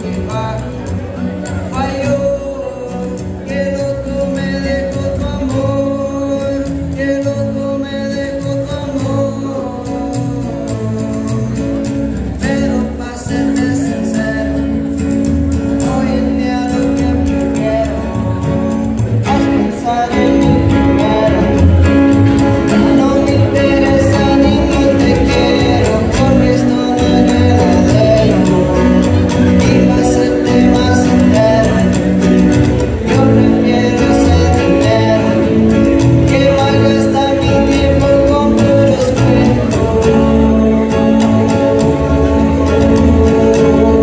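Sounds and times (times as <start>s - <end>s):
acoustic guitar: 0.0s - 44.0s
person singing: 0.0s - 44.0s
upright bass: 0.0s - 44.0s.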